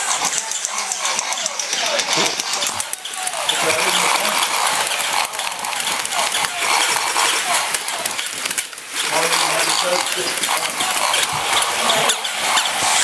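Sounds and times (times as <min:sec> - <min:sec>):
toy motor and plastic limbs clattering: 0:00.0 - 0:13.0.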